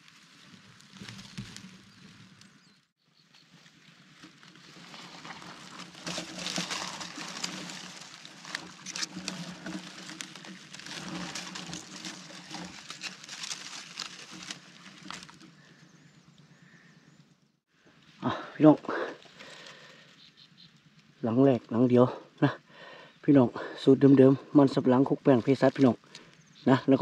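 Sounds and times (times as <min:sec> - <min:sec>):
grass and twigs rustling under hands: 0:00.0 - 0:22.5, 0:23.2 - 0:27.0.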